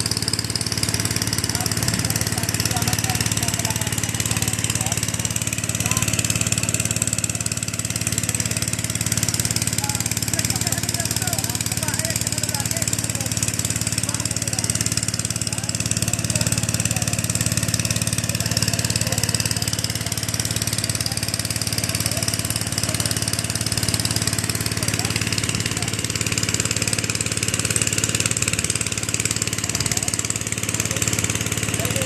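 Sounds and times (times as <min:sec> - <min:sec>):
water pump engine running: 0:00.0 - 0:32.0.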